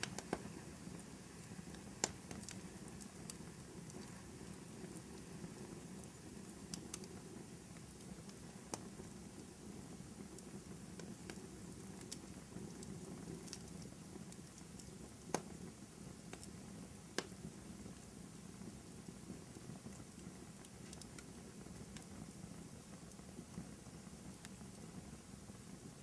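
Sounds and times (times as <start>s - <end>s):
sharp fire pops: 0.0s - 25.9s
fire crackling: 0.0s - 26.0s.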